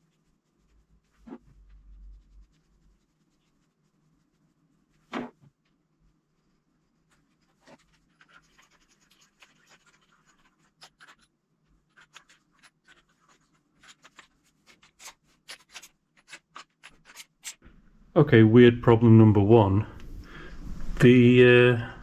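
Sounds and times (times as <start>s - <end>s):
faint handling clicks and scratches: 0.0s - 17.6s.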